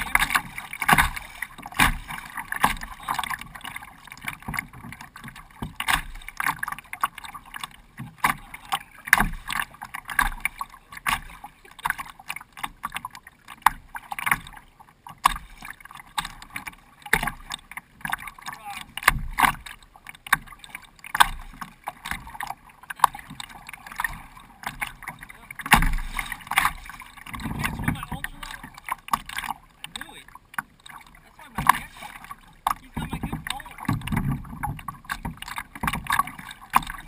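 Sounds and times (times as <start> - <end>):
steady wash of water: 0.0 - 37.0
water slapping kayak bow: 0.0 - 37.0.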